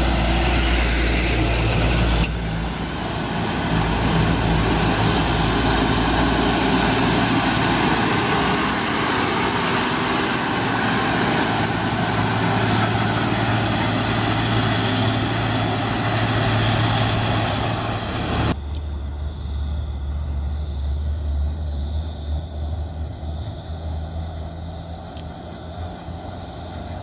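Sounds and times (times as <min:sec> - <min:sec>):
dump truck driving past: 0:00.0 - 0:27.0.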